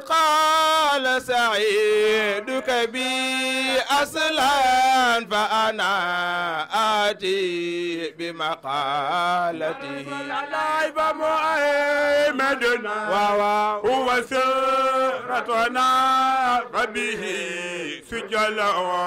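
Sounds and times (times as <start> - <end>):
men chanting into a microphone: 0.0 - 19.0.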